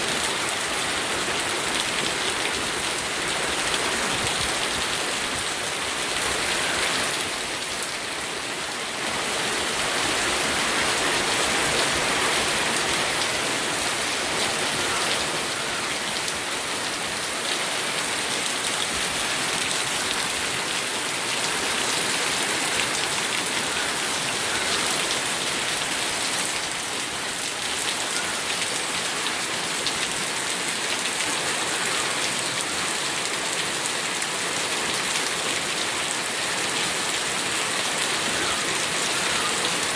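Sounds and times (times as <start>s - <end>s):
rain spattering on surfaces: 0.0s - 39.9s.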